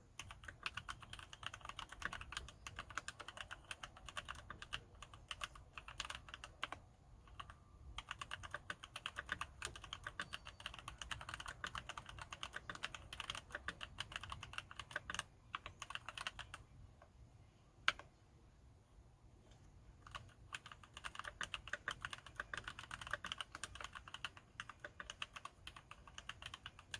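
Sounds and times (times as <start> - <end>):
mechanical keyboard typing: 0.2 - 16.6, 17.8 - 18.1, 20.0 - 26.9.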